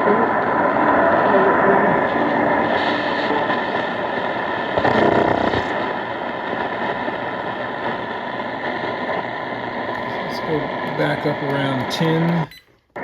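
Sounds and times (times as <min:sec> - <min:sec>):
radio static hiss: 0:00.0 - 0:13.0
weak radio broadcast audio: 0:00.0 - 0:13.0.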